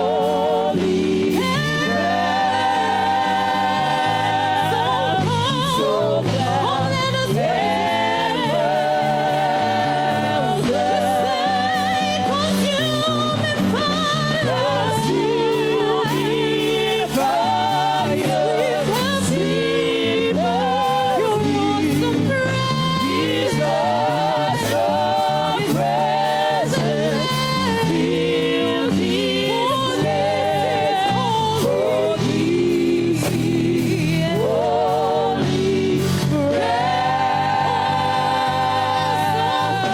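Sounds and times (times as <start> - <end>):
gospel singing with vibrato: 0.0 - 39.9.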